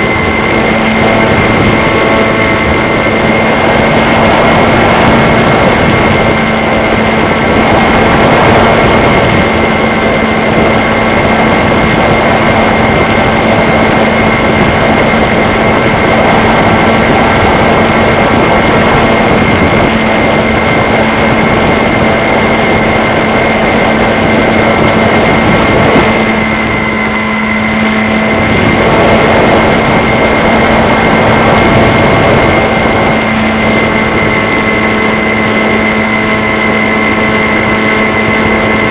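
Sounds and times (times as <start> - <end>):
model plane motor whining: 0.0 - 38.9.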